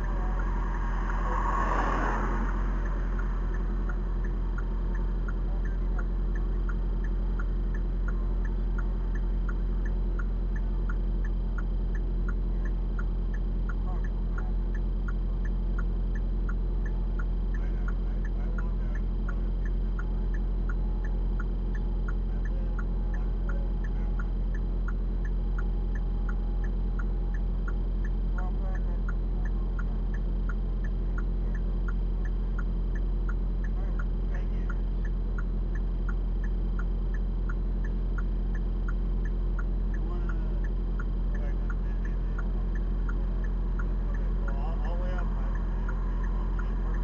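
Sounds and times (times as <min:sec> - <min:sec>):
car idling hum: 0:00.0 - 0:47.0.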